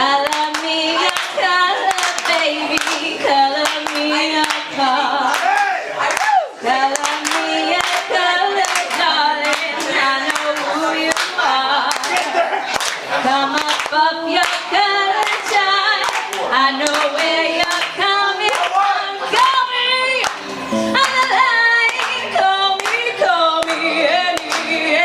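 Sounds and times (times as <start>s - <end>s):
a cappella group singing: 0.0s - 12.5s, 13.1s - 20.2s, 20.8s - 25.0s
hand claps: 0.2s - 4.7s, 5.3s - 13.0s, 13.6s - 14.6s, 15.2s - 19.5s, 20.2s - 20.4s, 21.0s - 22.2s, 22.8s - 24.8s.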